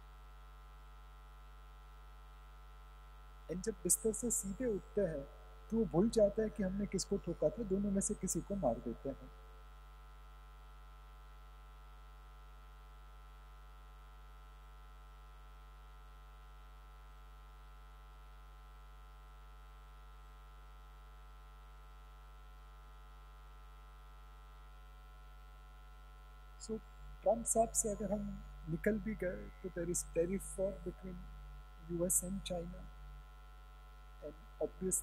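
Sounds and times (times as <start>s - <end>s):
faint mains hum: 0.0s - 35.0s.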